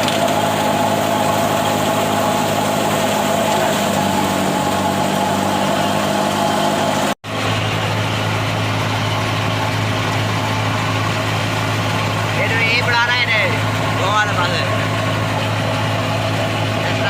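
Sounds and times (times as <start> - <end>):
thresher machine humming: 0.0 - 17.0.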